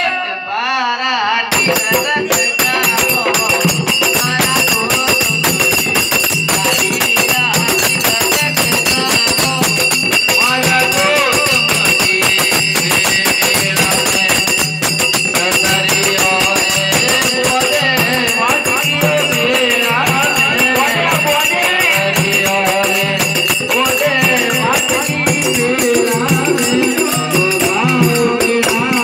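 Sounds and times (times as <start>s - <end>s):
music with fast percussion: 1.5s - 29.0s.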